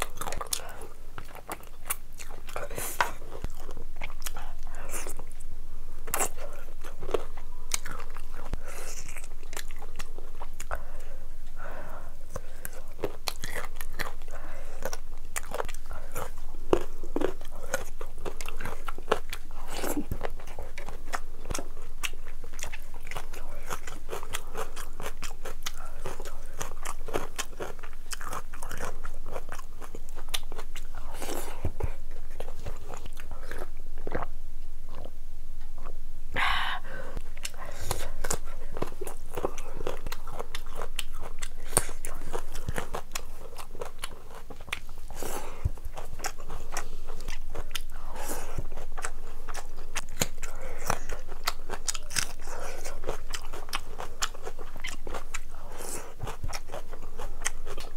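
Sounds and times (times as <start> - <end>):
chewing with wet clicks: 0.0 - 5.4, 6.1 - 11.1, 12.3 - 34.3, 37.3 - 57.9.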